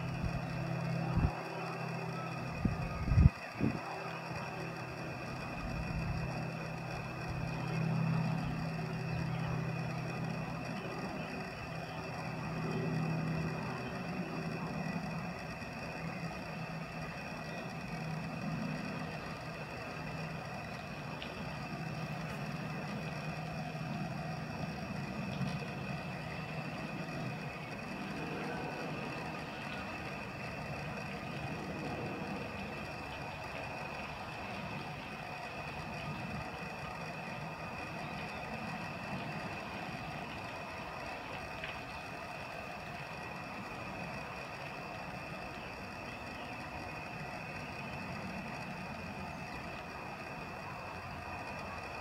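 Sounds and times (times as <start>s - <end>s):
constant high-pitched whine: 0.0s - 52.0s
engine humming: 0.0s - 52.0s
steady background rumble: 0.0s - 52.0s.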